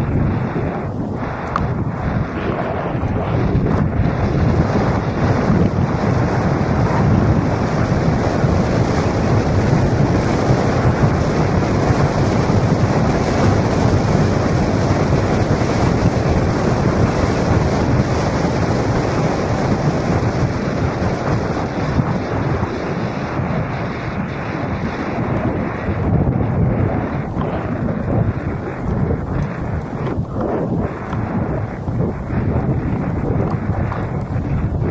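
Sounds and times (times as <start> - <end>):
bike rumbling on rough ground: 0.0 - 34.9
wind buffeting microphone: 0.0 - 34.9.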